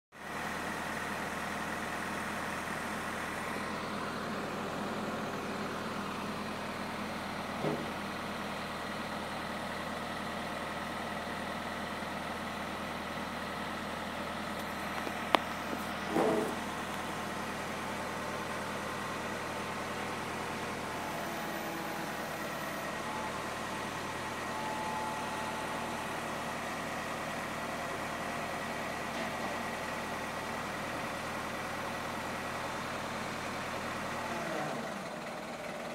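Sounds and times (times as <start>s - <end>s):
truck engine idling: 0.2s - 35.9s.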